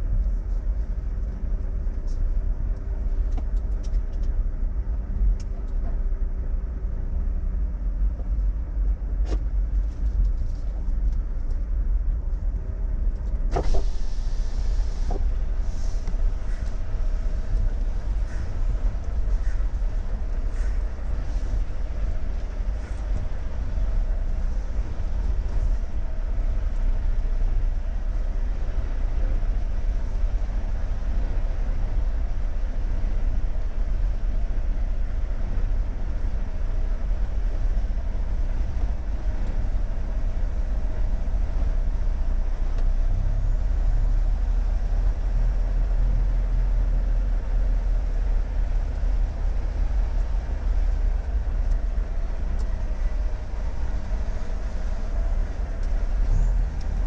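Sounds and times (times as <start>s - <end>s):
faint steady whine: 0.0s - 57.0s
truck engine low rumble: 0.0s - 57.0s.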